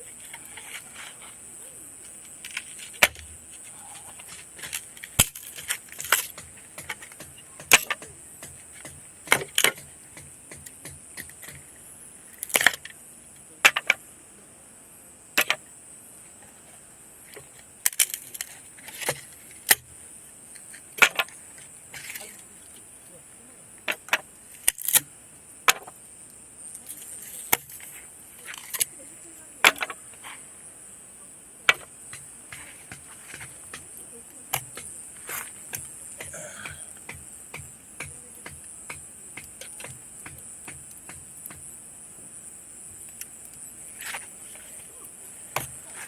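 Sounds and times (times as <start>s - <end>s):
night insects chirping: 0.0s - 46.0s.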